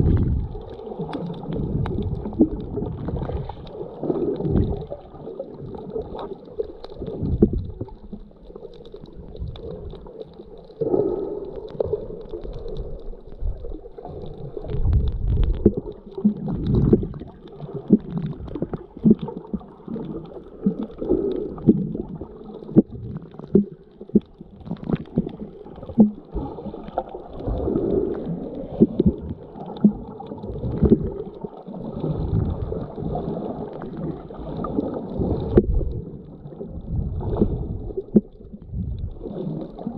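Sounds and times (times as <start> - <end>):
underwater water sloshing: 0.0 - 39.9.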